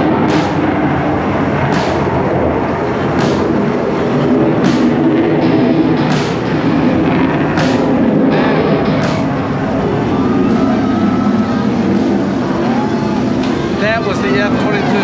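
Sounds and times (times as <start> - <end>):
sharp regular beat: 0.0 - 12.4
jet engine roar: 0.0 - 15.0.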